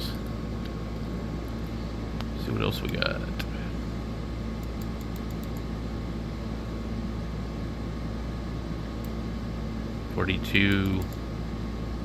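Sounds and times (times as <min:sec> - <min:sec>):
fan hum and hiss: 0:00.0 - 0:12.0.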